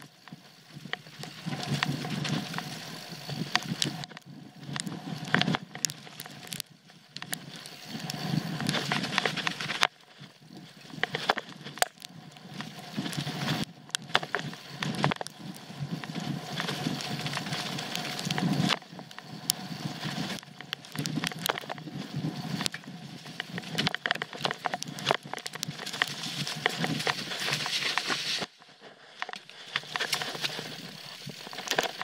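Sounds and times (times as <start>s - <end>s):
bike rattling over bumps: 0.0s - 28.6s, 29.3s - 32.0s
bike tyres crunching over dirt: 0.0s - 32.0s.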